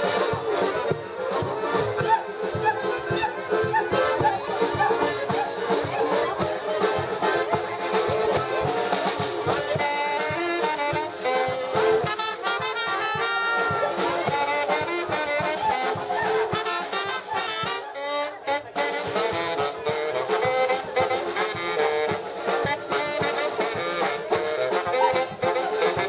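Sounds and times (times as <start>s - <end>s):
brass band playing: 0.0s - 26.0s.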